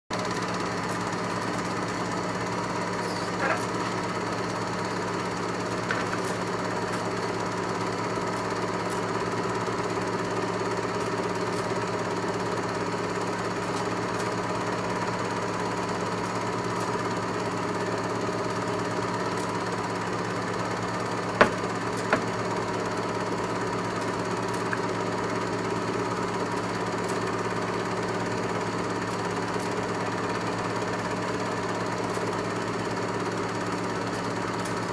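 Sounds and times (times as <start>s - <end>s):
film projector running: 0.1s - 34.9s.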